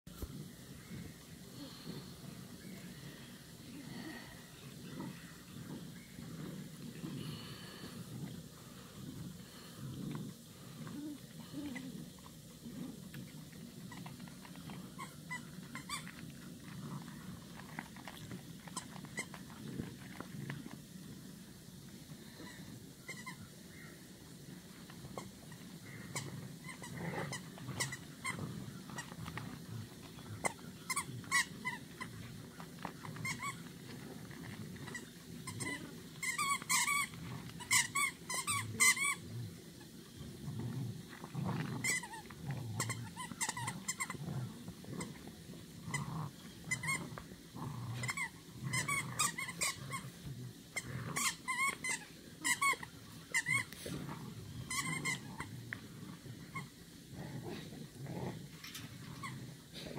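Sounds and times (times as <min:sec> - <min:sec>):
puppies growling: 0:00.0 - 0:59.9.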